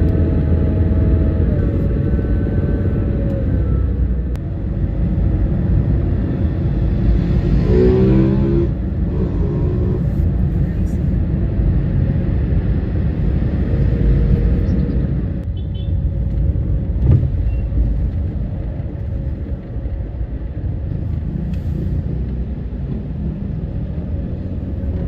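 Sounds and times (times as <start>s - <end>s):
car rumble from inside cabin: 0.0s - 25.0s.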